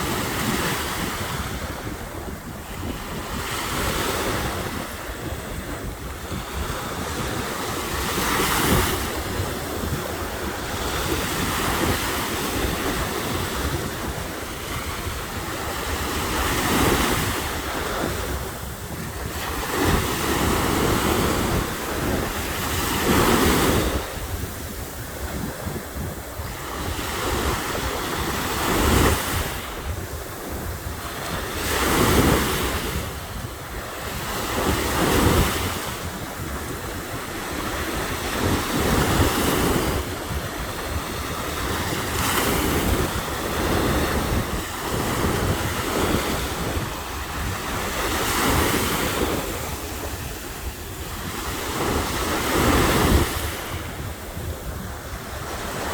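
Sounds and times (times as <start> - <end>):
ocean surf breaking on beach: 0.0 - 55.9
wind buffeting microphone: 0.0 - 55.9.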